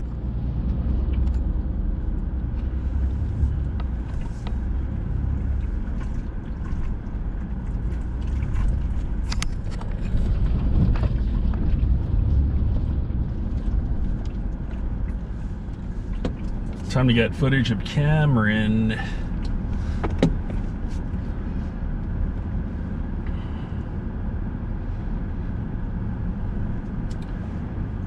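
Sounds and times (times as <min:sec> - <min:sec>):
low rumble of engine and tyres: 0:00.0 - 0:28.0.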